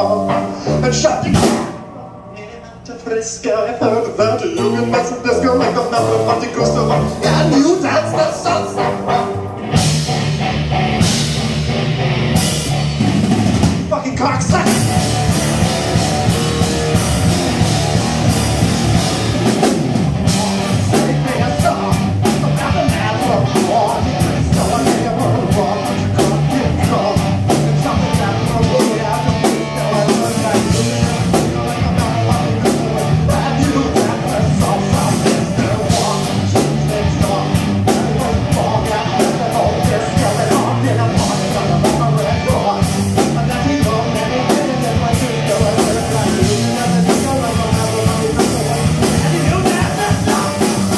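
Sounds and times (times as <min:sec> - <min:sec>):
drum kit with cymbals: 0:00.0 - 0:02.7, 0:05.8 - 0:50.9
electric guitar: 0:04.2 - 0:50.9.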